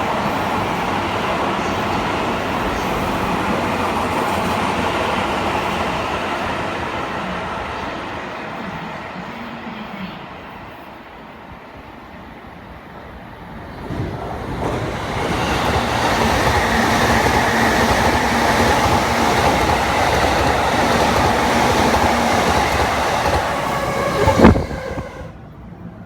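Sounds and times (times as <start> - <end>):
train running on rails: 0.0 - 26.0.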